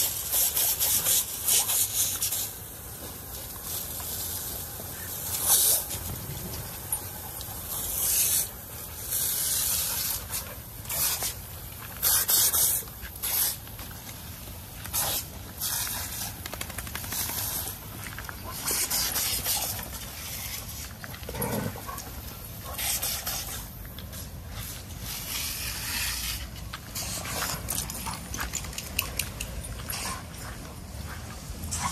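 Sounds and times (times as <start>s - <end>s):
water spray hissing and splashing: 0.0s - 21.1s, 21.8s - 28.7s.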